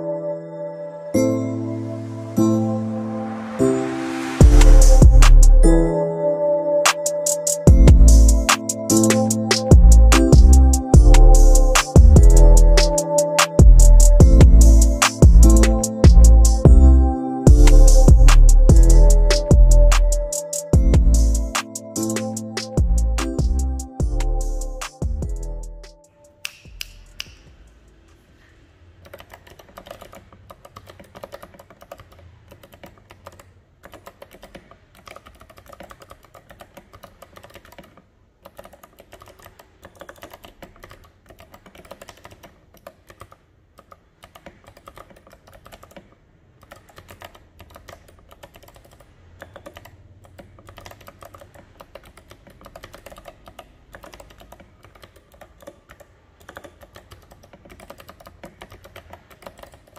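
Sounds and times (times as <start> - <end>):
mechanical keyboard typing: 6.9 - 16.7, 17.5 - 26.2, 28.9 - 59.9.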